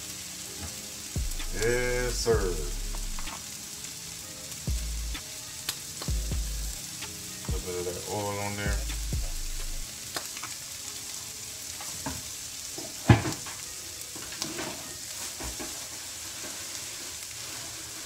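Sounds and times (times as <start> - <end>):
food sizzling in a skillet: 0.0 - 18.0.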